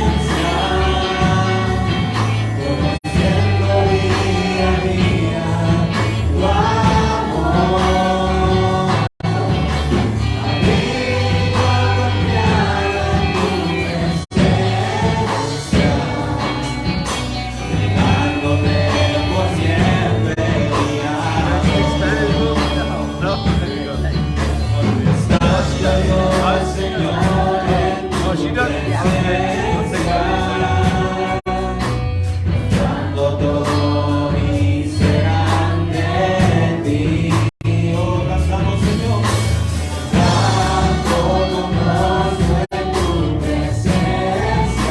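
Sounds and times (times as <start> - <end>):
band with steady bass: 0.0 - 44.9
voices singing gospel: 0.0 - 44.9.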